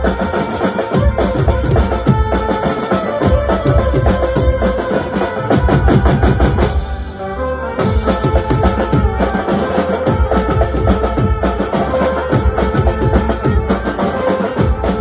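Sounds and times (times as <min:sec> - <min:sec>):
music with driving drum beat: 0:00.0 - 0:15.0.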